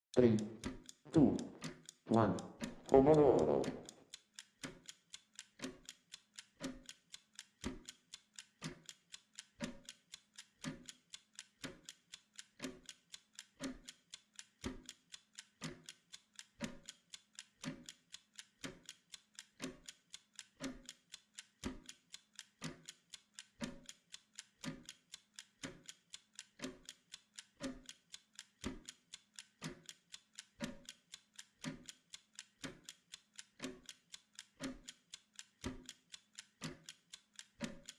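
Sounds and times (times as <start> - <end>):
timer ticking: 0.1 - 37.9.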